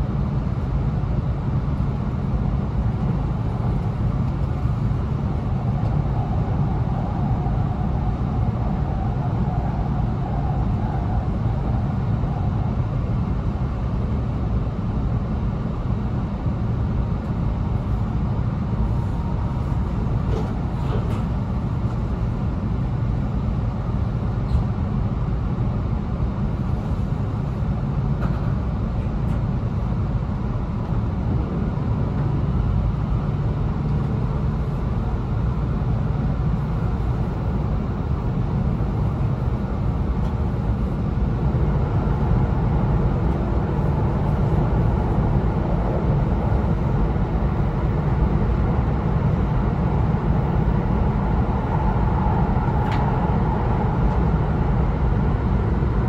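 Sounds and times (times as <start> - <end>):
train interior low rumble: 0.0 - 56.0.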